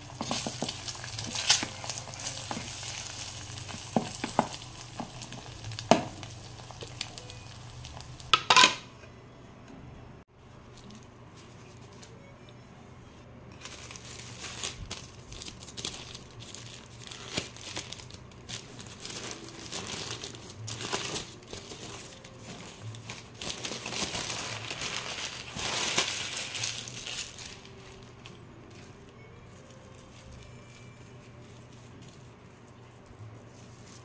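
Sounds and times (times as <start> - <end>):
paper wrapper crinkling: 0.0 - 8.3, 13.6 - 34.0.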